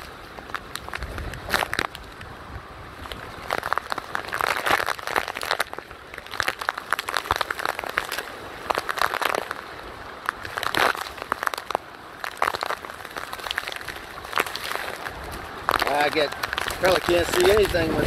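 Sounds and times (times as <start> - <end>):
rain tapping on plastic case: 0.0 - 2.4, 3.0 - 18.0
steady rain wash: 0.0 - 18.0.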